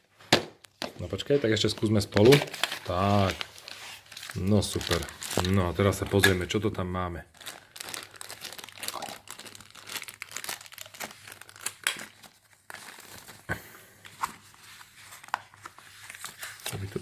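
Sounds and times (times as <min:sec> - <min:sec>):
packaging crinkling: 0:01.7 - 0:17.0.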